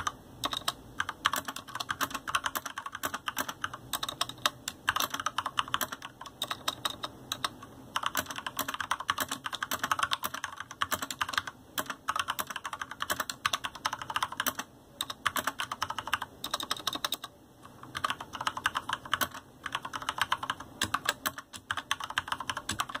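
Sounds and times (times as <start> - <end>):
mechanical keyboard typing: 0.0 - 23.0.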